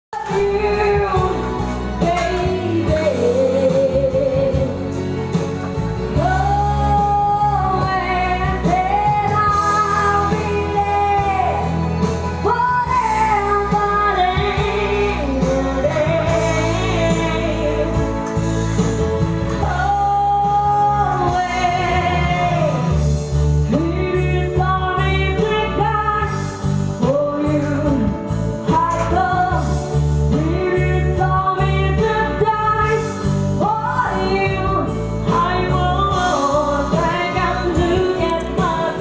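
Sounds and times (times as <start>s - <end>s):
instrumental backing with bass line: 0.1s - 39.0s
person singing: 0.2s - 39.0s.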